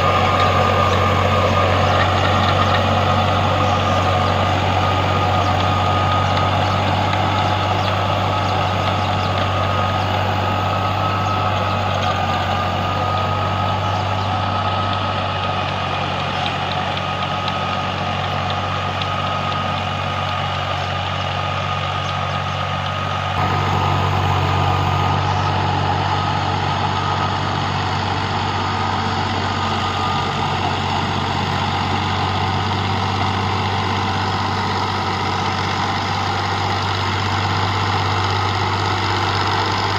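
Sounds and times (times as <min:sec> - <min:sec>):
tractor engine running with whine: 0:00.0 - 0:39.9.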